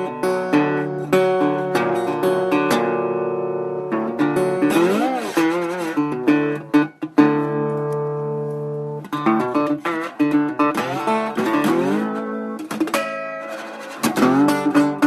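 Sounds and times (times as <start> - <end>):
slide guitar blues: 0.0 - 15.0.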